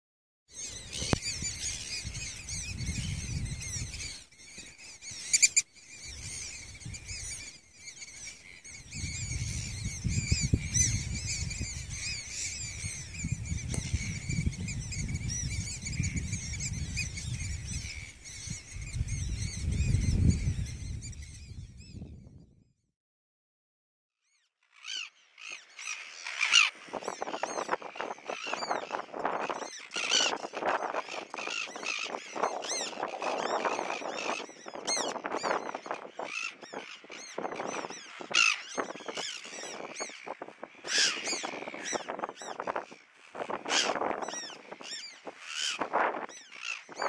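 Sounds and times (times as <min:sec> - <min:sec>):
birds calling high-pitched: 0:00.5 - 0:22.3, 0:24.3 - 0:47.0
wind buffeting microphone: 0:00.6 - 0:04.2, 0:06.0 - 0:07.5, 0:08.6 - 0:22.7, 0:26.7 - 0:47.0.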